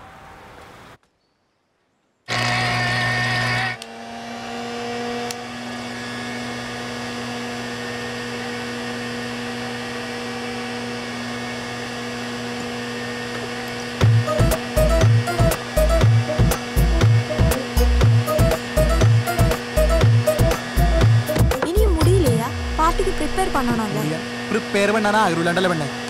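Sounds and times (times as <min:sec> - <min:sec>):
blender blending fruit: 0:02.3 - 0:26.0.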